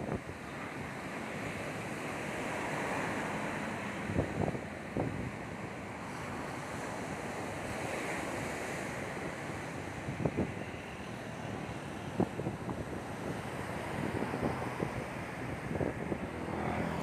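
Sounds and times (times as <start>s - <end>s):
surf washing up a beach: 0.0s - 17.0s.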